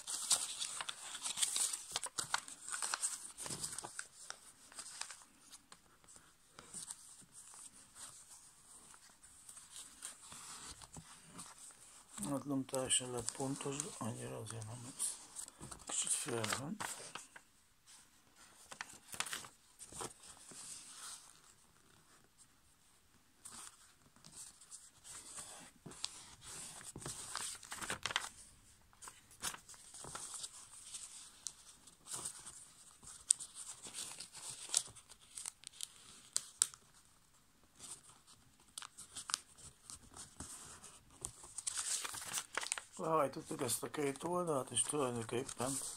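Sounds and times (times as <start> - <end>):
paper folding and crinkling: 0.0 - 45.9.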